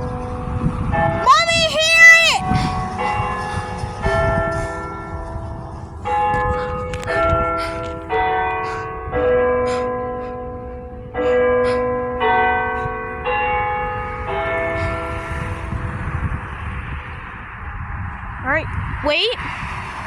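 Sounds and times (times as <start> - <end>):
church bells ringing a tune: 0.0 - 17.4.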